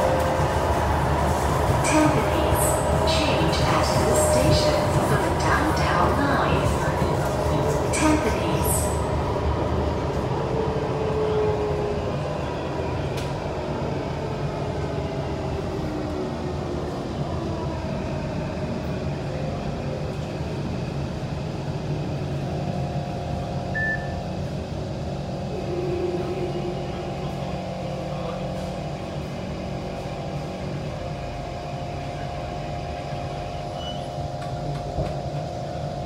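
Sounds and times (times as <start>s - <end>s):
train running rumble: 0.0s - 36.0s.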